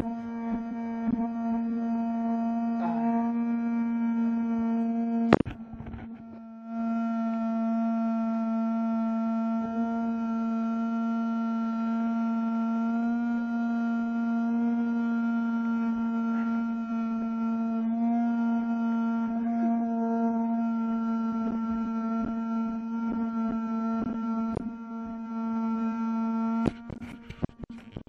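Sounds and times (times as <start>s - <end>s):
small fan motor whine: 0.0s - 28.0s.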